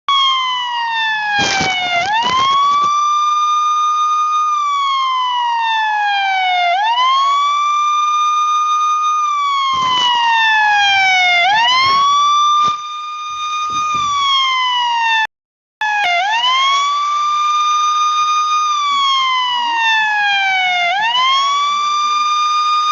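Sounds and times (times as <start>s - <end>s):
police siren wailing: 0.1s - 22.9s.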